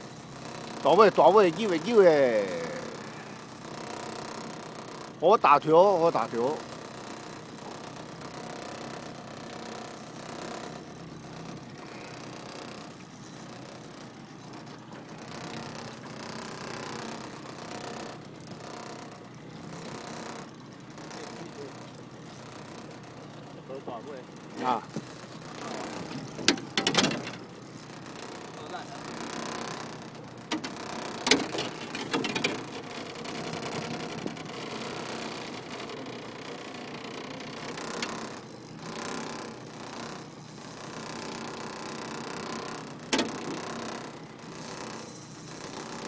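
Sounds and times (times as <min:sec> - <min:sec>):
boat motor humming: 0:00.0 - 0:46.0
fishing reel whirring: 0:00.0 - 0:46.0.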